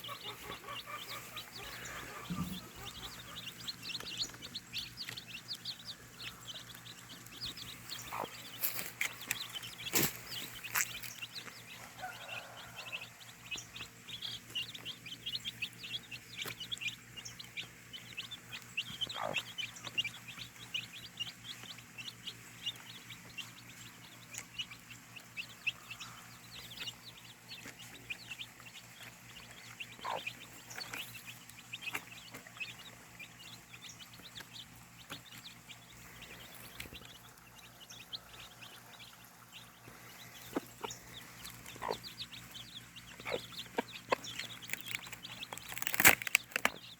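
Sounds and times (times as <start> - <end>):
birds chirping rapidly: 0.0 - 46.9.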